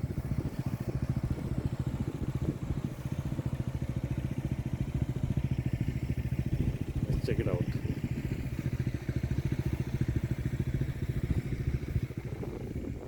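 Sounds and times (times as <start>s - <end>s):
motorcycle engine idling low: 0.0s - 13.0s.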